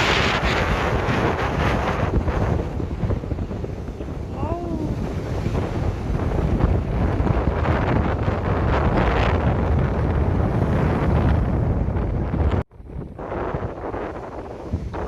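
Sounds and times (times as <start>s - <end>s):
sea surf washing: 0.0s - 15.0s
strong wind on microphone: 0.0s - 15.0s.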